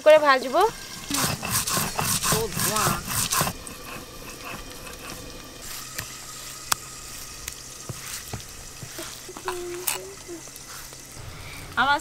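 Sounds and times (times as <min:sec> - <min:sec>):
oil popping: 0:00.0 - 0:12.0
potatoes sizzling in oil: 0:00.0 - 0:12.0.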